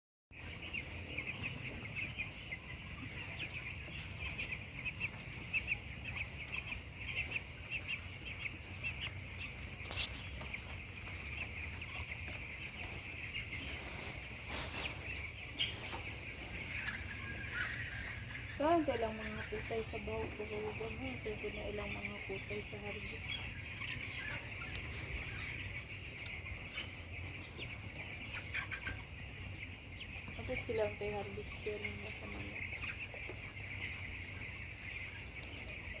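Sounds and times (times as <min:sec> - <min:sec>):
chicks peeping: 0:00.3 - 0:36.0.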